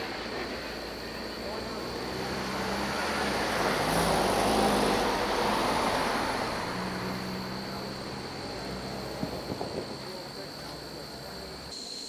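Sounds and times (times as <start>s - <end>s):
vehicle passing: 0.0s - 11.7s
high insect drone: 0.0s - 12.0s.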